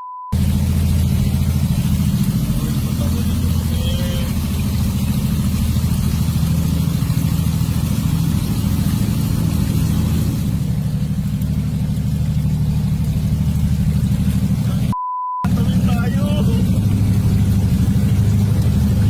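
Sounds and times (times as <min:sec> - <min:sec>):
vehicle engine rumbling: 0:00.3 - 0:19.0.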